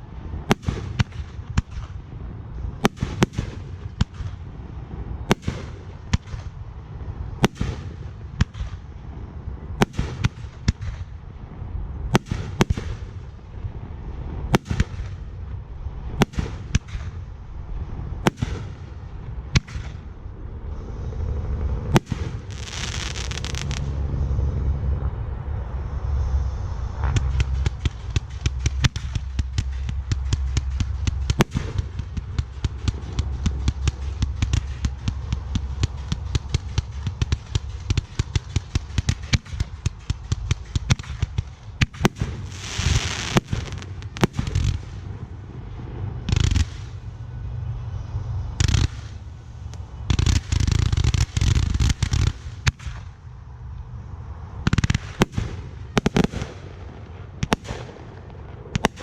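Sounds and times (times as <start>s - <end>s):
fireworks hissing crackle: 0.0s - 11.3s, 12.1s - 24.0s, 25.7s - 53.3s, 54.6s - 59.0s
fireworks exploding: 0.3s - 11.4s, 12.0s - 20.4s, 21.6s - 23.9s, 27.0s - 47.2s, 48.6s - 53.2s, 54.6s - 59.0s.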